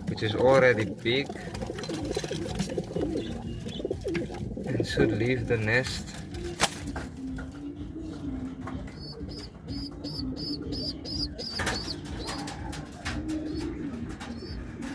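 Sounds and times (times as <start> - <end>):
pigeons cooing: 0.0 - 14.9.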